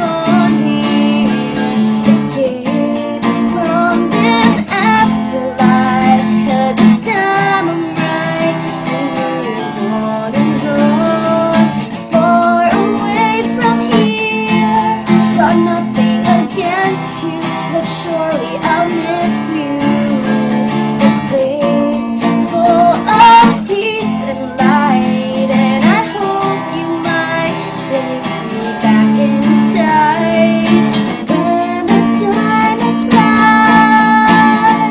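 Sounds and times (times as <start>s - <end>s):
acoustic guitar strumming: 0.0s - 34.9s
young woman singing: 0.0s - 34.9s.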